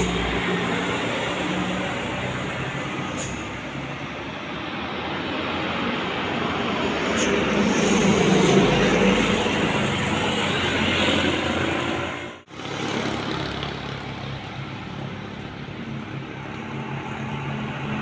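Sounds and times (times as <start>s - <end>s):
road noise: 0.0s - 18.0s
truck engines passing: 0.0s - 18.0s.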